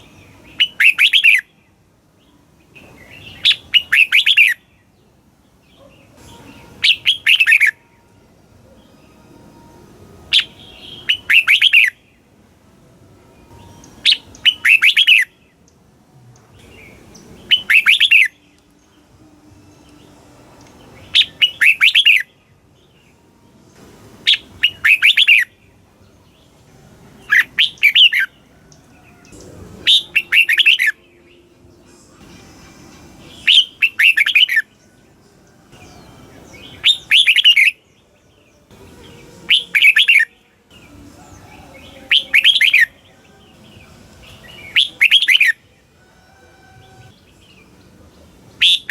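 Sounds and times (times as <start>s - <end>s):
bulbul singing warbling phrases: 0.0s - 1.6s, 2.2s - 9.2s, 10.2s - 12.3s, 13.4s - 15.8s, 16.4s - 23.1s, 24.2s - 45.9s, 46.9s - 48.9s.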